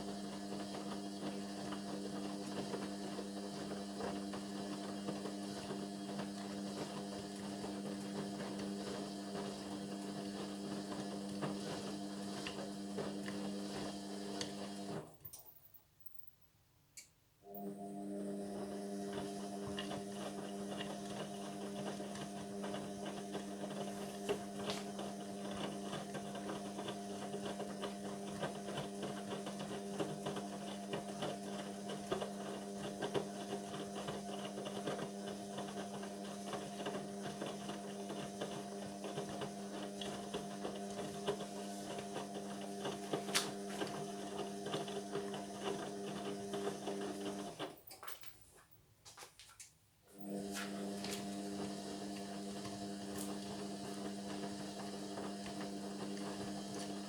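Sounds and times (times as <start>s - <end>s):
washing machine motor hum: 0.0s - 15.2s, 17.4s - 48.3s, 50.1s - 57.0s.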